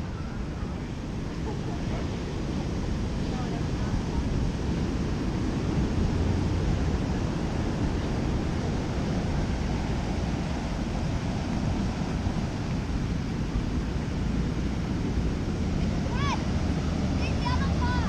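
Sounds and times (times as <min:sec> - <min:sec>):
storm surf: 0:00.0 - 0:18.0
wind buffeting microphone: 0:00.0 - 0:18.0.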